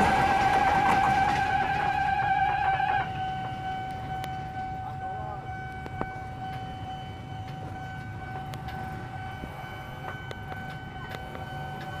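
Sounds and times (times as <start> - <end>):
level crossing alarm tone: 0.0 - 12.0.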